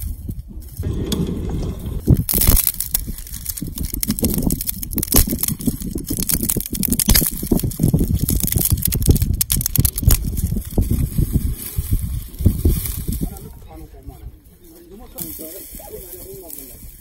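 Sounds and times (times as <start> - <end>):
dry grass and twigs crackling: 0.0 - 17.0.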